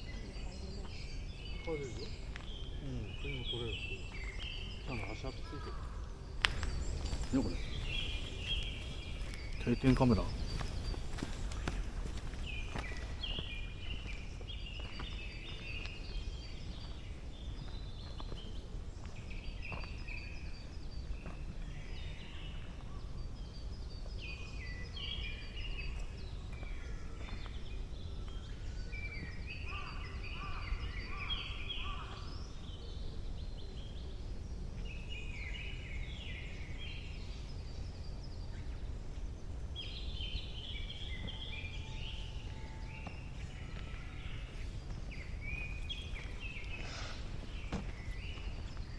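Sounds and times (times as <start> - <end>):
bird song phrase: 0.0 - 48.9.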